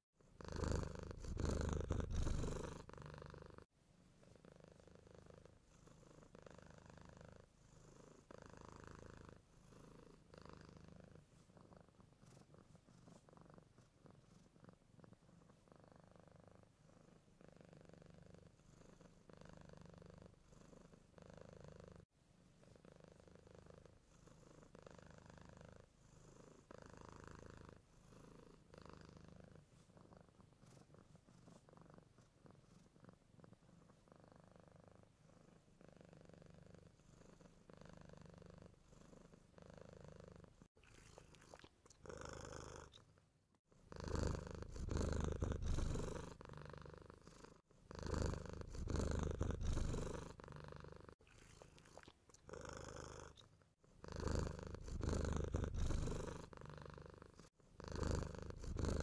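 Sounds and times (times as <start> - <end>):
cat snoring: 0.2 - 43.0, 43.8 - 59.0.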